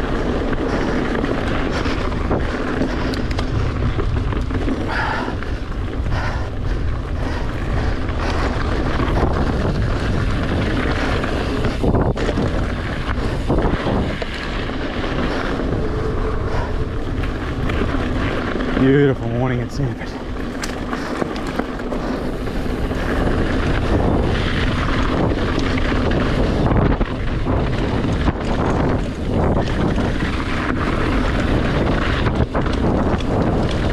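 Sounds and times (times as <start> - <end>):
bike rattling and knocking: 0.0 - 33.9
tyre rumble: 0.0 - 33.9
wind buffeting microphone: 0.0 - 33.9.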